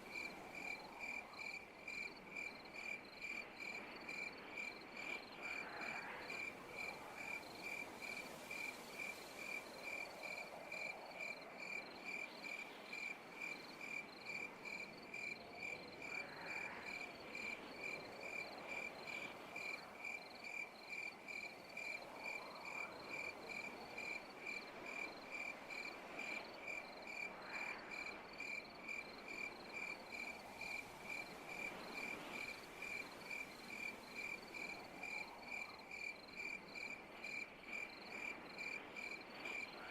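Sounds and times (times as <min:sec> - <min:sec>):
faint hiss of insects: 0:00.0 - 0:39.9.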